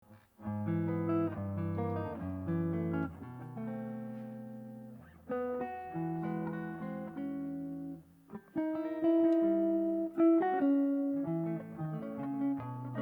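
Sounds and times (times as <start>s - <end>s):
guitar playing ringing chords: 0.4s - 13.0s.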